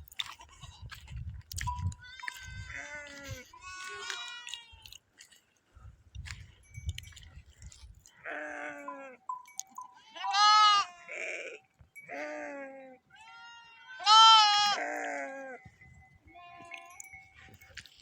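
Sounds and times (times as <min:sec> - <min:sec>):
goats and sheep bleating: 0:00.0 - 0:05.4, 0:08.0 - 0:18.0.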